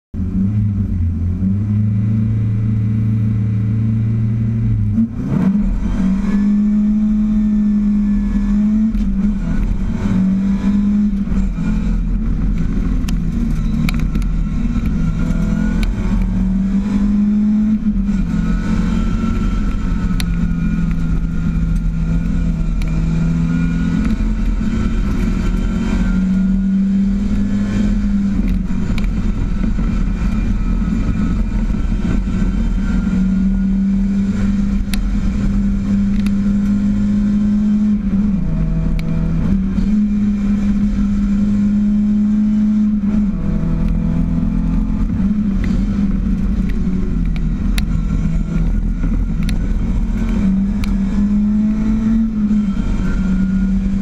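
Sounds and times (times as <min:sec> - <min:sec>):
race car engine revving: 0:00.2 - 0:54.0.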